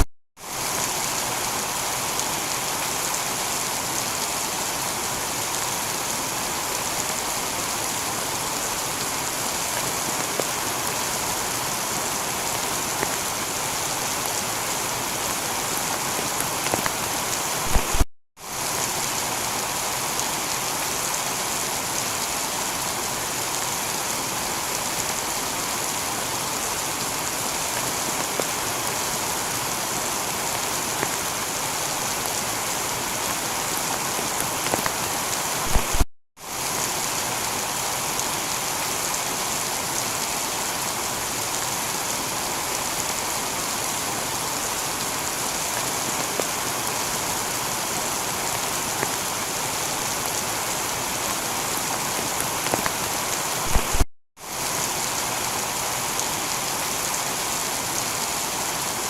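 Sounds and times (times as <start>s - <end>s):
heavy rain on a tiled roof: 0.0s - 59.0s.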